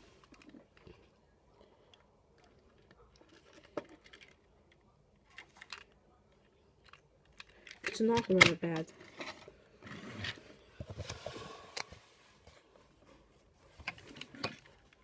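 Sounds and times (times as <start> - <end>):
plastic toy handling: 0.0 - 1.2, 1.8 - 15.0.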